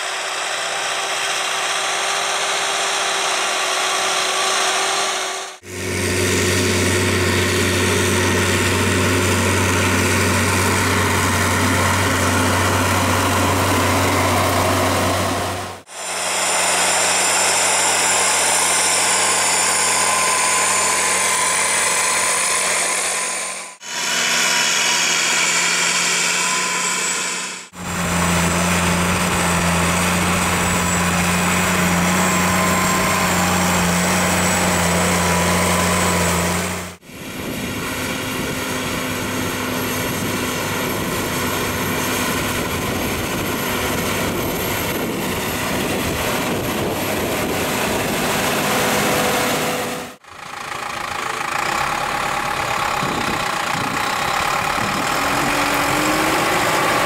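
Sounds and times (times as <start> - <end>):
tractor engine drone: 0.0 - 57.0.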